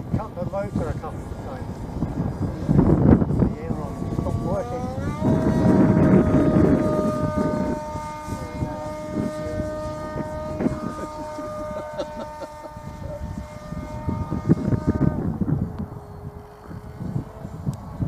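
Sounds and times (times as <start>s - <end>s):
electric motor propeller whining: 0.0s - 18.0s
wind rumble on microphone: 0.0s - 18.0s.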